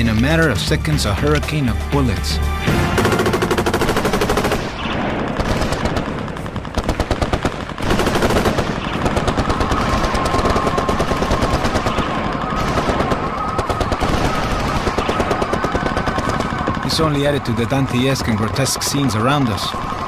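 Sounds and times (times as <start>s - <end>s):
automatic machine-gun fire: 2.7s - 20.0s.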